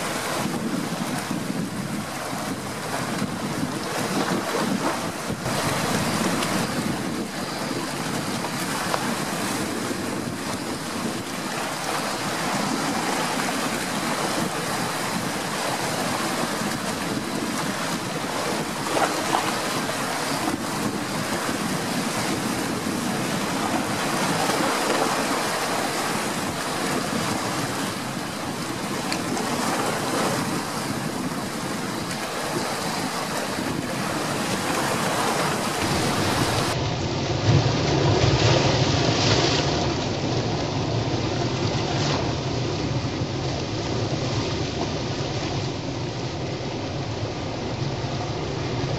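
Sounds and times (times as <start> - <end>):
waves breaking over rocks: 0.0 - 48.9.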